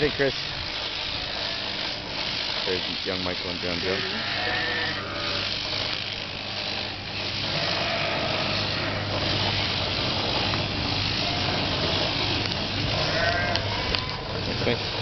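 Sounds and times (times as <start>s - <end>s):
clippers cutting fleece: 0.0s - 15.0s
sheep-shearing machine hum: 0.0s - 15.0s.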